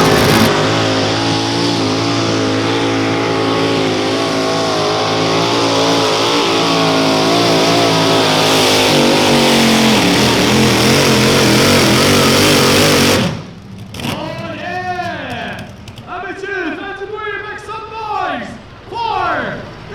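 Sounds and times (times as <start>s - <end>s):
tractor engine at high revs: 0.0s - 16.9s.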